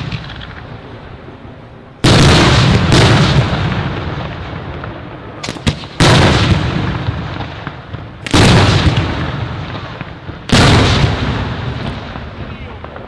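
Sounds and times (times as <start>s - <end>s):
firework shells booming: 0.0s - 1.0s, 2.0s - 13.0s.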